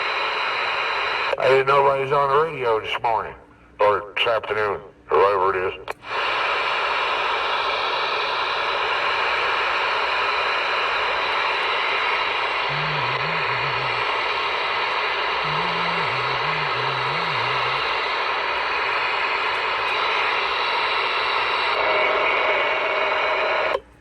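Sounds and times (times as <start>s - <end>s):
radio static hiss: 0.0s - 23.8s.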